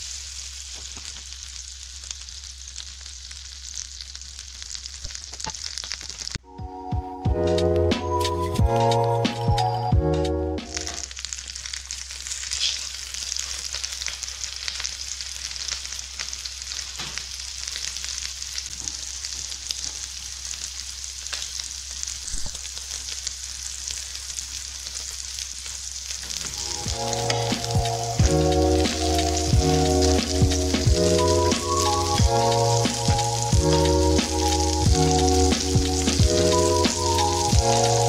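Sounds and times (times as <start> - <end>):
fish sizzling in a frying pan: 0.0 - 6.4, 10.6 - 38.0.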